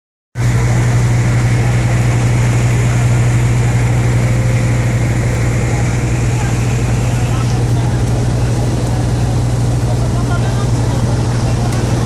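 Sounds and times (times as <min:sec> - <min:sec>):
rushing noise: 0:00.4 - 0:11.4
boat engine running: 0:00.4 - 0:12.0.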